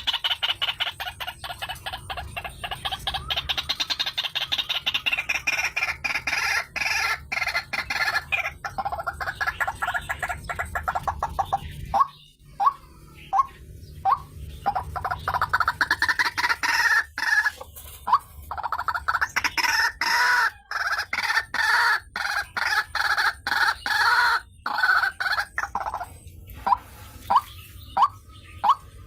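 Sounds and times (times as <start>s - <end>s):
bird harsh croaking calls: 0.0s - 29.0s.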